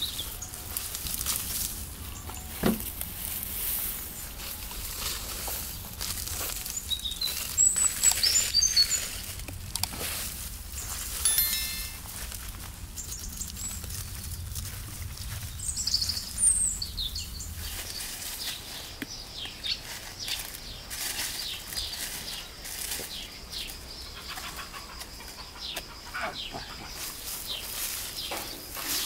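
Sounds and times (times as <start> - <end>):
small birds chirping: 0.0 - 1.2, 3.7 - 12.0, 12.9 - 29.0
dry weeds and vines rustling: 0.0 - 25.2, 26.9 - 29.0.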